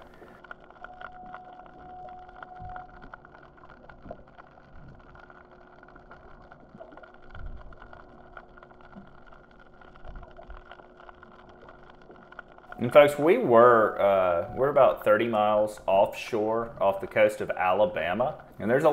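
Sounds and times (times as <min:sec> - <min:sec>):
muffled underwater hum: 0:00.0 - 0:18.9.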